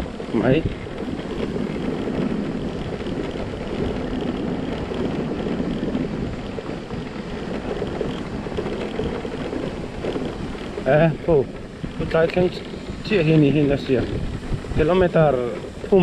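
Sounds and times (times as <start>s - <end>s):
motorcycle engine running: 0.0s - 16.0s
road noise: 0.0s - 16.0s
wind buffeting microphone: 0.0s - 16.0s.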